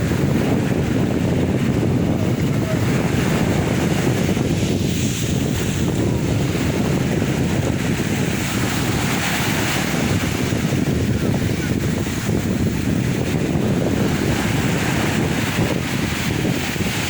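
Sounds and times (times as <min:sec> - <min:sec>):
sea waves washing on shore: 0:00.0 - 0:17.0
wind on microphone: 0:00.0 - 0:17.0.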